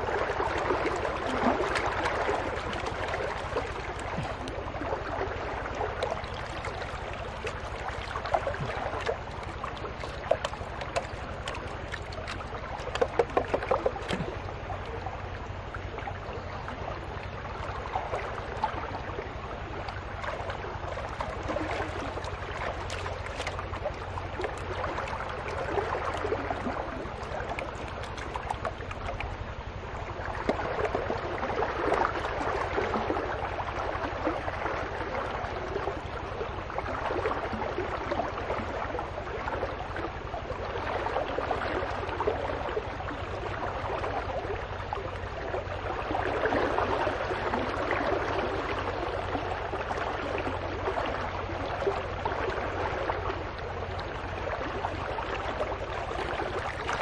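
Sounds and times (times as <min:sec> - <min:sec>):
water sloshing in a pan: 0:00.0 - 0:57.0.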